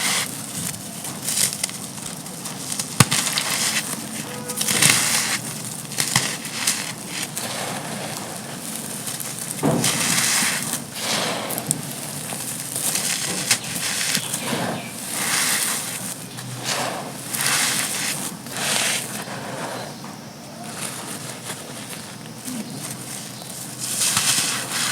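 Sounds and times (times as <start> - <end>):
sand-cement chunks crumbling: 0.0 - 24.9.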